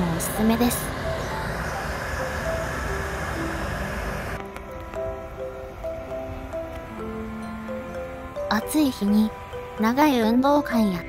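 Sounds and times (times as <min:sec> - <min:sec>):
simple melody of held notes: 0:00.0 - 0:11.0.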